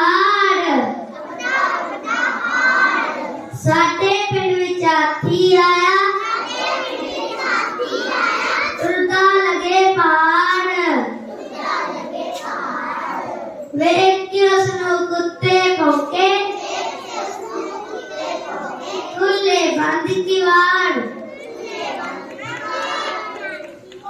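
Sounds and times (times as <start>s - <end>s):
child singing: 0.0s - 24.0s.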